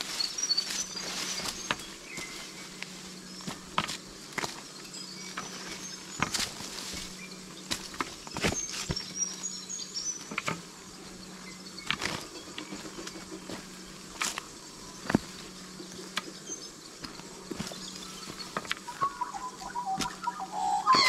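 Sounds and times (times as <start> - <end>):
faint insect chirps: 0.0 - 21.0
footsteps crunching on rocks and leaves: 0.0 - 21.0.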